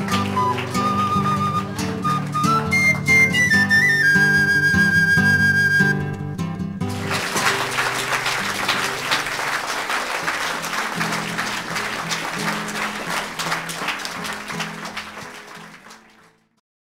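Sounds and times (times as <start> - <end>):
audience applauding: 0.0 - 4.8, 6.8 - 16.6
instrumental music: 0.0 - 16.1.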